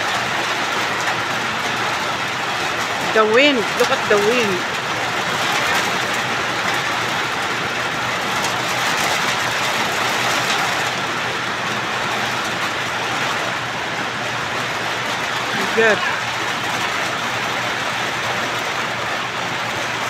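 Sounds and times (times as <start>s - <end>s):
heavy rain on metal roofs: 0.0s - 20.0s.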